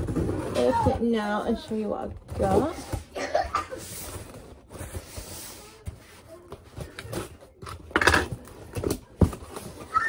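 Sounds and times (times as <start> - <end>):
cardboard crackling and scraping: 0.0 - 10.0.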